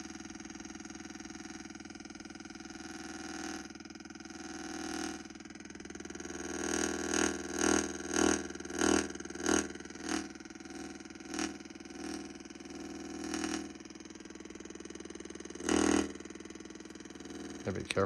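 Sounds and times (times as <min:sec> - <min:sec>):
buzzing electronic drone: 0:00.0 - 0:18.0.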